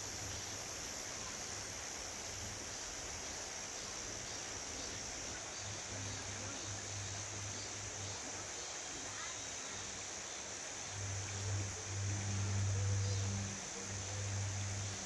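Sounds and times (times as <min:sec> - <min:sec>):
fast pulsing insect call: 0:00.0 - 0:15.0
insects droning: 0:00.0 - 0:15.0.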